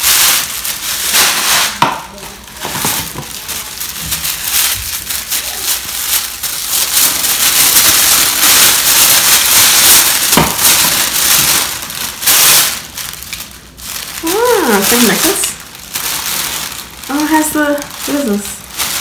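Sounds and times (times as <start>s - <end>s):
tissue paper rustling: 0.0s - 19.0s.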